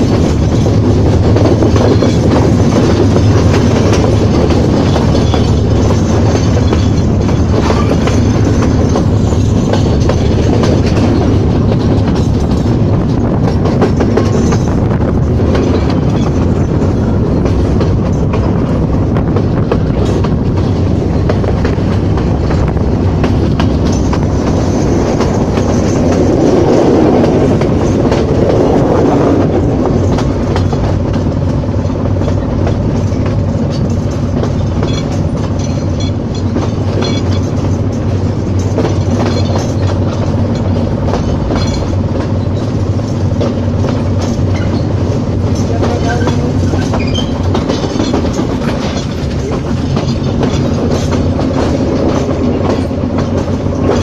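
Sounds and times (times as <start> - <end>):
train rumble: 0.0 - 54.0
wheels clattering over rail joints: 0.0 - 54.0.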